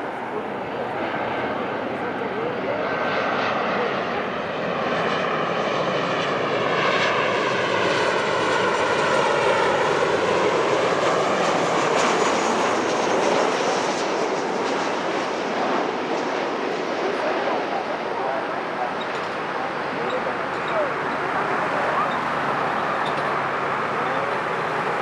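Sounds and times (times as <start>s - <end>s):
jet airliner passing: 0.0s - 25.0s
jet engine whine: 0.0s - 25.0s.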